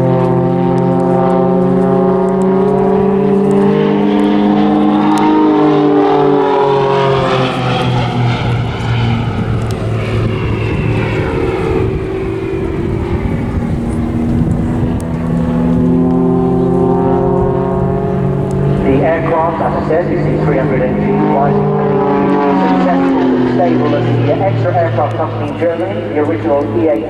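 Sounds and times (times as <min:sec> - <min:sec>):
aircraft engine droning: 0:00.0 - 0:27.0.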